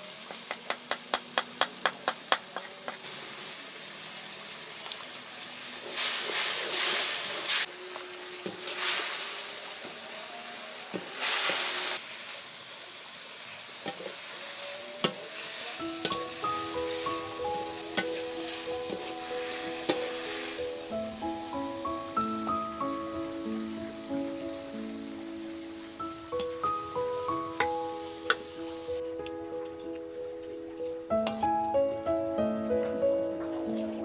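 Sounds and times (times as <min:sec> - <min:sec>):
oil sizzling: 0:00.0 - 0:34.0.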